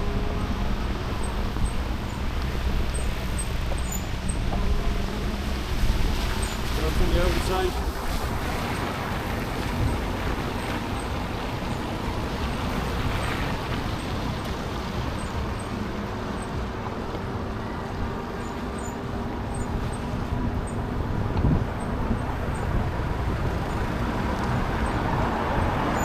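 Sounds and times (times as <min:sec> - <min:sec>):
road traffic rumble: 0:00.0 - 0:26.0
wind noise: 0:00.0 - 0:26.0.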